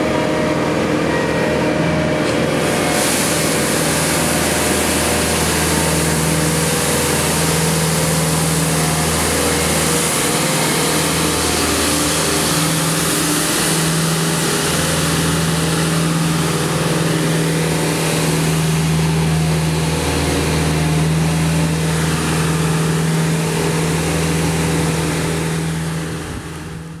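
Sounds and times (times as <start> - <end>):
street sweeper engine running: 0.0 - 27.0.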